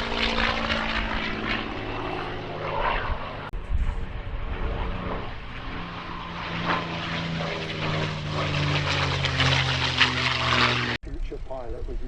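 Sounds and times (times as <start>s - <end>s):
propeller plane engine flying overhead: 0.0s - 12.0s.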